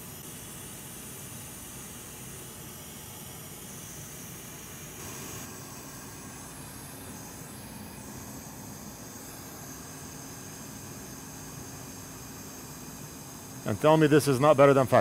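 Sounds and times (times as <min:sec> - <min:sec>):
electric fan hissing: 0:00.0 - 0:15.0.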